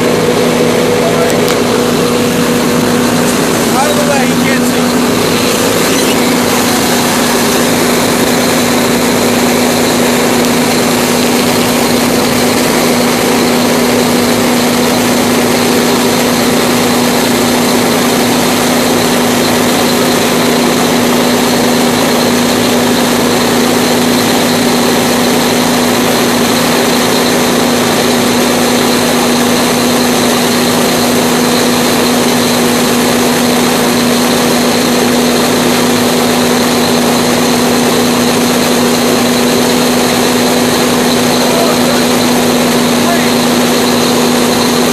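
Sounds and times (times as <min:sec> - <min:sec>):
fire engine pump droning: 0:00.0 - 0:44.9.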